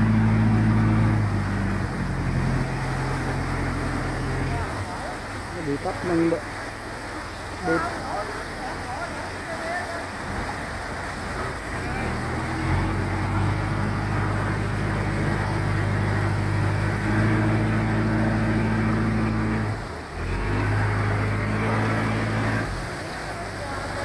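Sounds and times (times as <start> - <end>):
boat engine running hard: 0.0 - 24.0
rushing water: 0.0 - 24.0.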